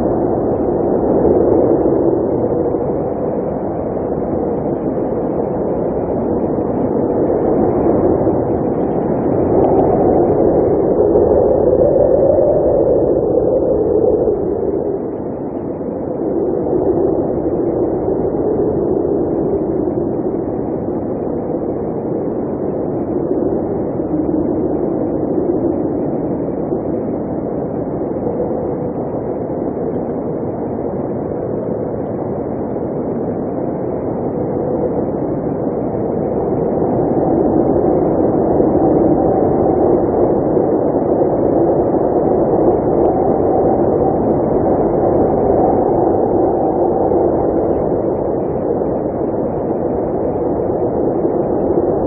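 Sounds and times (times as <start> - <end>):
blizzard wind blowing: 0.0 - 52.0.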